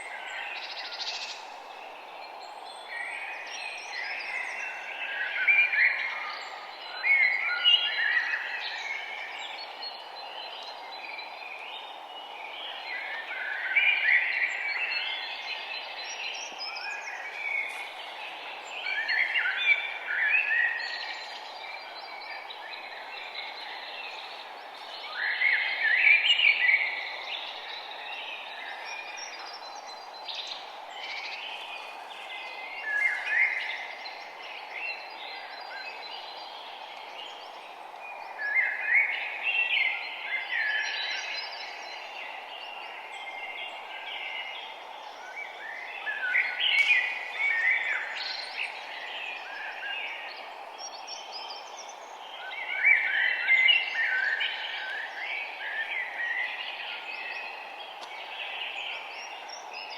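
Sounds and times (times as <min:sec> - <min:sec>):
birds singing: 0:00.0 - 0:59.9
steady background hiss: 0:00.0 - 0:59.9.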